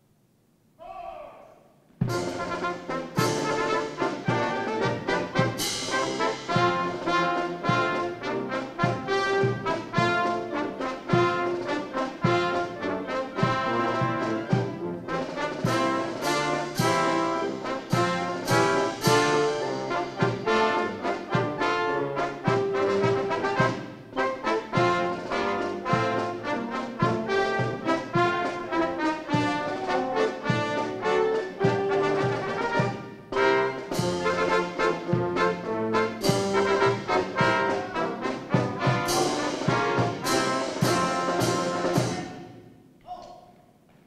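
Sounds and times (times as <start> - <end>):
brass band playing a march: 2.0 - 42.7.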